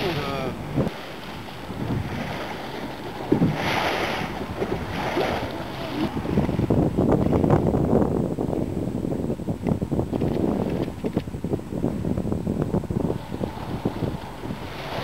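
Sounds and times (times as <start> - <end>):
water sloshing around boat: 0.0 - 7.8, 9.5 - 15.0
wind buffeting microphone: 0.0 - 15.0.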